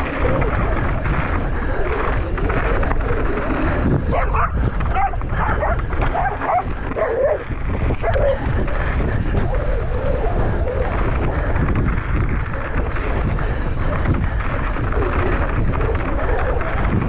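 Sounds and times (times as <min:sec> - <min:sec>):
steady low rumble: 0:00.0 - 0:17.0
wind buffeting microphone: 0:00.0 - 0:17.0.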